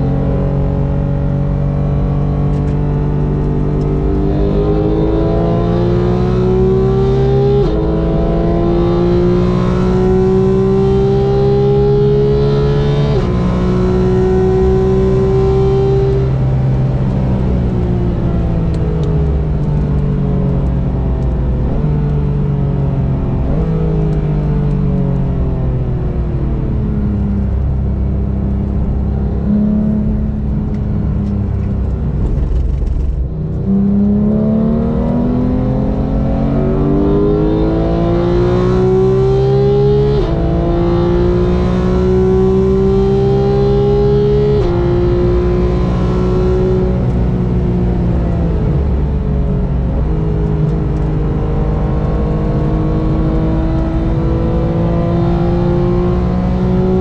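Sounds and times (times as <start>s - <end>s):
sports car engine revving: 0.0s - 57.0s.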